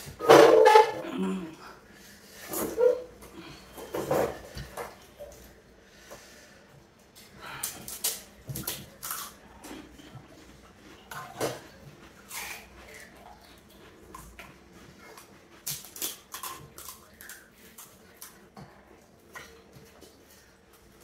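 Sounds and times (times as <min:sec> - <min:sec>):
eating noises: 0:00.0 - 0:21.0.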